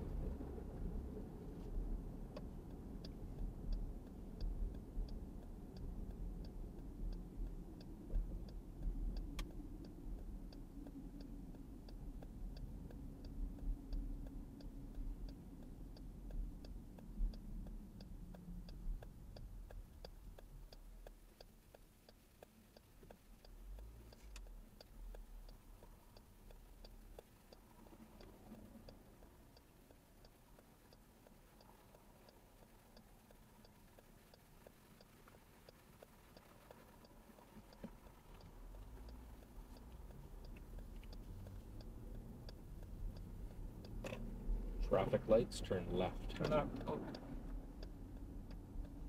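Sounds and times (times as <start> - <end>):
road and engine rumble: 0.0 - 49.0
turn signal clicking: 0.0 - 49.0.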